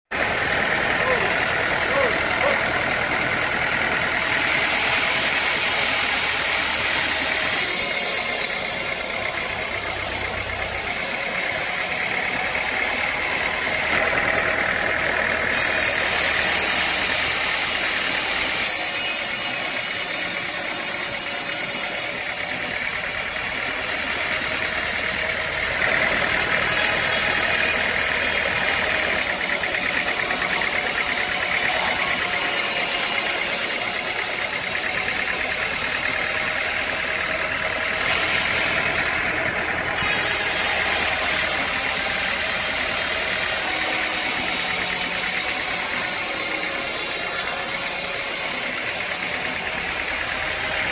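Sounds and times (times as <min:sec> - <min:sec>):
sawmill machinery engine running: 0:00.1 - 0:50.9.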